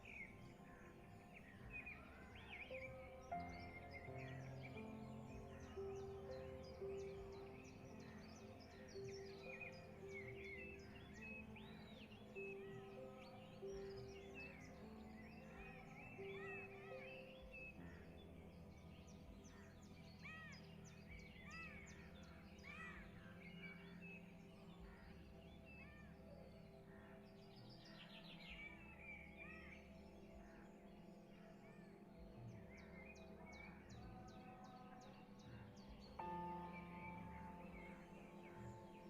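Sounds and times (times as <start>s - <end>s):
small birds chirping: 0.0s - 39.0s
soft background music: 0.0s - 39.0s.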